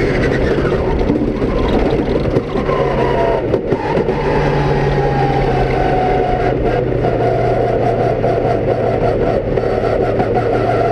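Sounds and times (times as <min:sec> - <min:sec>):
rally car engine pulling: 0:00.0 - 0:10.9.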